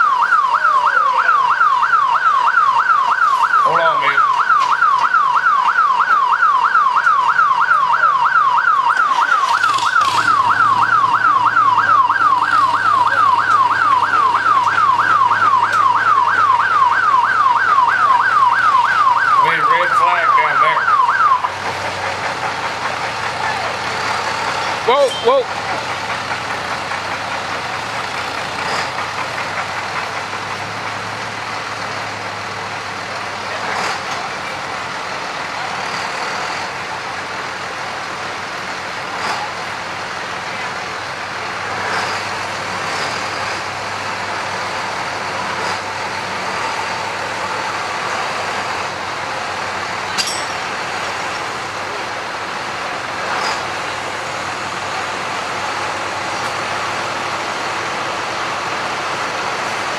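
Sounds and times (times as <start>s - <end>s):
tractor engine running: 8.8s - 20.3s, 20.9s - 59.9s.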